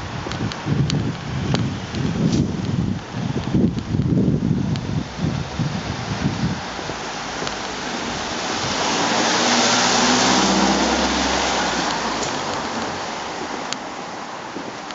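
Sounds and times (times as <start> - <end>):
low engine hum: 0.0 - 13.7
tyre hiss on wet road: 0.0 - 14.9.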